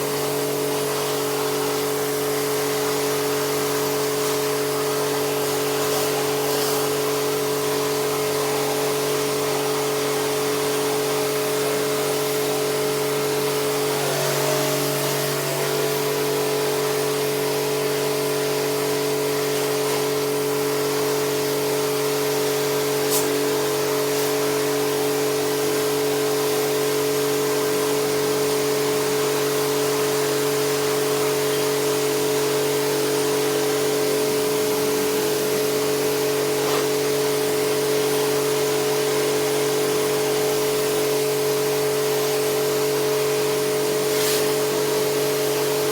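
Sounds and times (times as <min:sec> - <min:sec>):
machine humming and hissing: 0:00.0 - 0:45.9.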